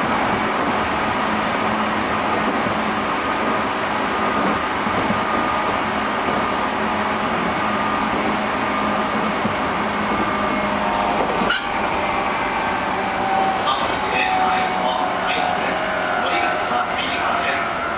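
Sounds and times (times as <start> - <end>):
train wheels rumbling: 0.0 - 17.9.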